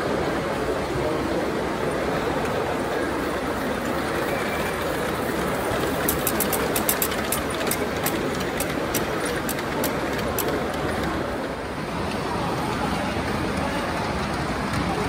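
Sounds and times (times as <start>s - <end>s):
steady hall hum: 0.0s - 15.0s
train wheels clicking over rail joints: 2.2s - 15.0s.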